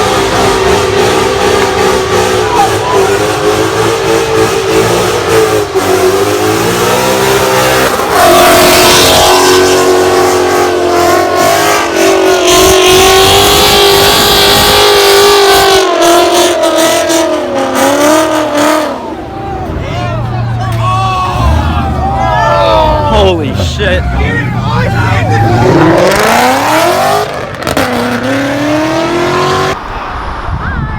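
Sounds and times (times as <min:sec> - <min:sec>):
car engine revving hard: 0:00.0 - 0:29.8.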